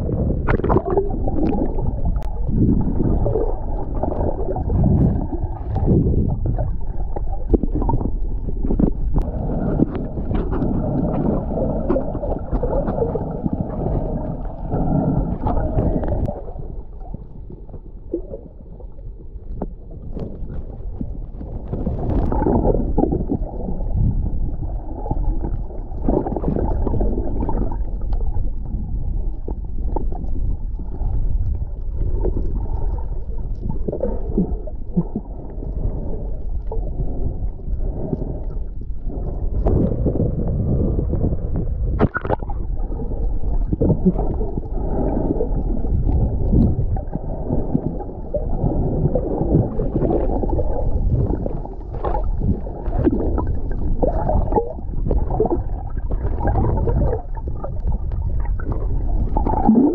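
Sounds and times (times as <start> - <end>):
underwater rumble and gurgling: 0.0 - 59.9.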